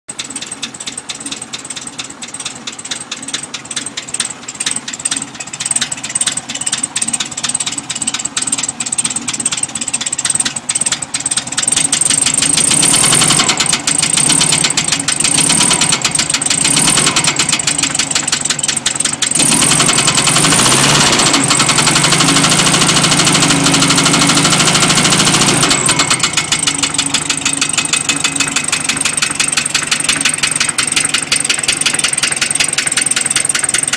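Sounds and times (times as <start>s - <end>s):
car engine knocking and revving: 0.1s - 33.9s.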